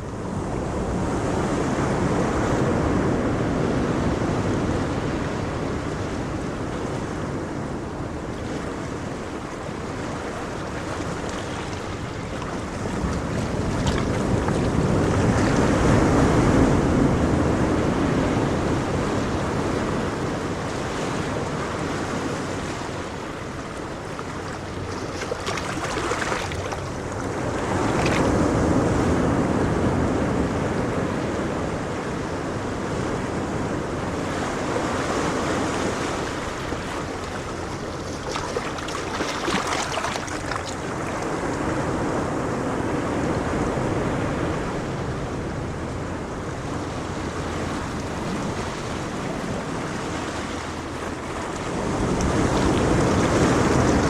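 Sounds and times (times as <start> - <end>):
ocean waves breaking on shore: 0.0 - 54.0
wind on microphone: 0.0 - 54.0.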